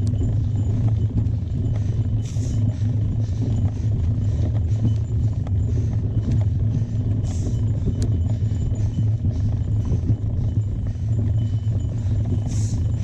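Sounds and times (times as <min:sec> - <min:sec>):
bike rolling noise: 0:00.0 - 0:13.0
wind rumble on microphone: 0:00.0 - 0:13.0.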